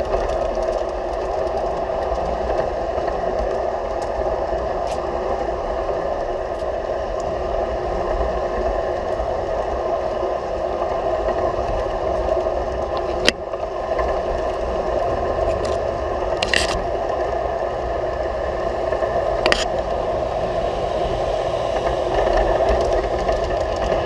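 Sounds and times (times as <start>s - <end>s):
model train motor and wheels rumbling: 0.0s - 24.0s.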